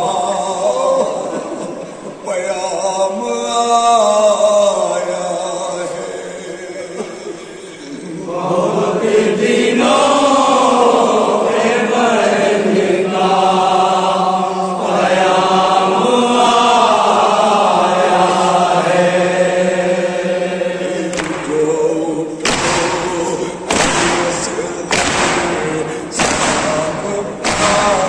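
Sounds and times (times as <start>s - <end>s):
men chanting in unison: 0.0s - 28.0s.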